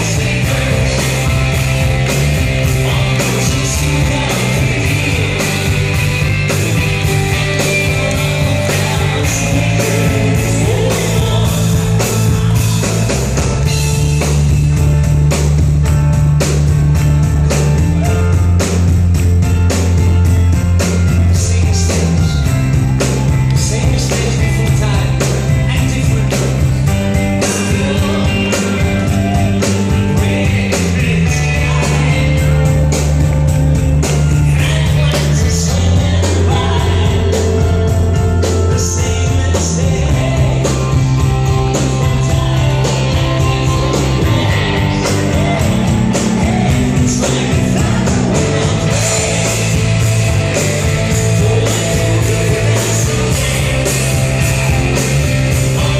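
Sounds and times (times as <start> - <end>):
person singing: 0.0 - 14.8, 20.9 - 55.9
bass notes: 0.0 - 55.9
rock band playing live: 0.0 - 55.9.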